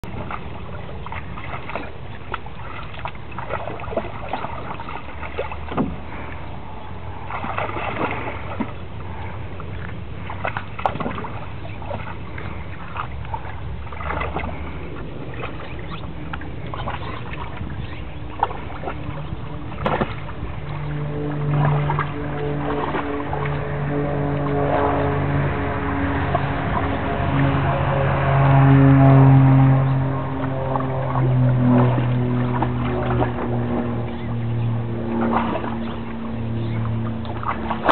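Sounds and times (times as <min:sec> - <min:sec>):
water splashing and sloshing: 0:00.0 - 0:37.9.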